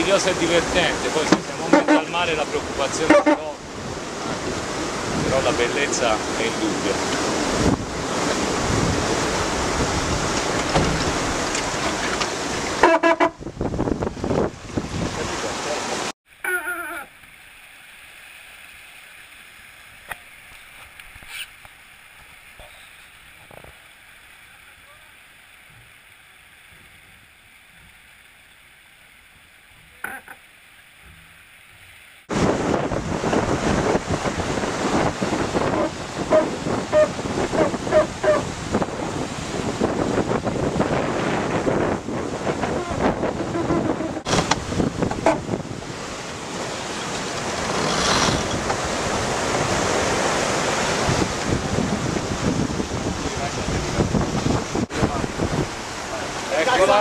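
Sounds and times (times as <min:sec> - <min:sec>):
water and wind rushing along hull: 0:00.0 - 0:57.0.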